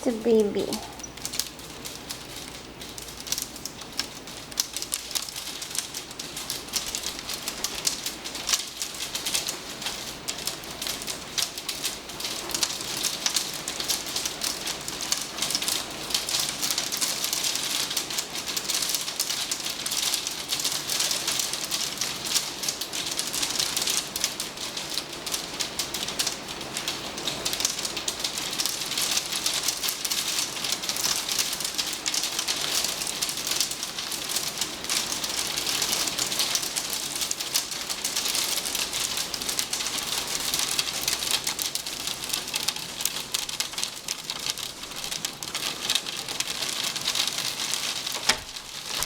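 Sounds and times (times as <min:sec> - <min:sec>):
hail pelting down: 0:00.0 - 0:49.0.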